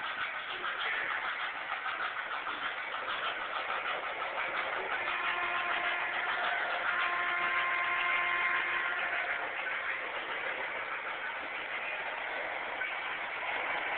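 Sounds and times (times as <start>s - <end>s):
model steam train hissing: 0.0s - 13.9s.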